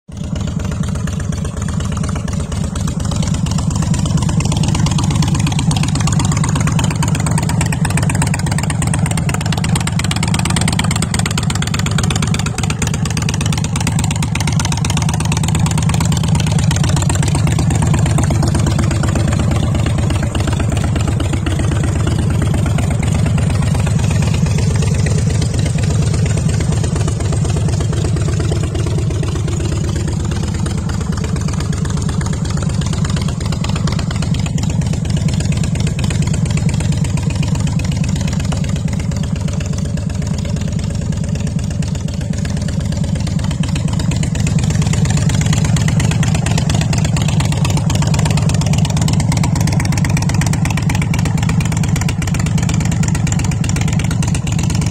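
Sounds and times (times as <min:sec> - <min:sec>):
motorcycle engine idling: 0:00.1 - 0:54.9.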